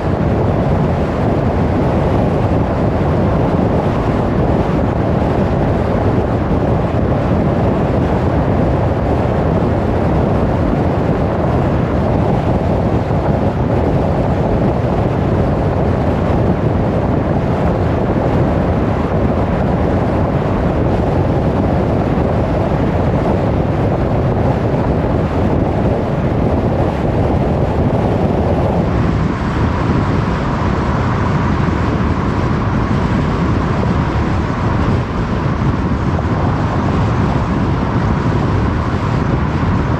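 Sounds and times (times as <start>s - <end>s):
tyre and wind road noise: 0.0s - 39.9s.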